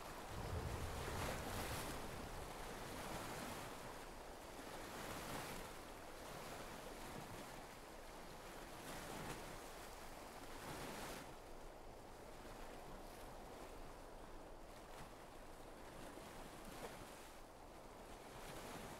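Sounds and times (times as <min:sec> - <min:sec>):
small waves washing onto shore: 0:00.0 - 0:18.9.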